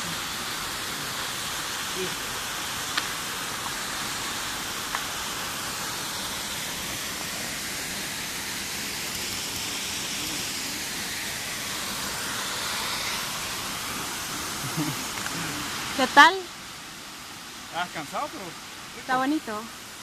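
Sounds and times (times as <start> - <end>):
waterfall hiss: 0.0 - 20.0.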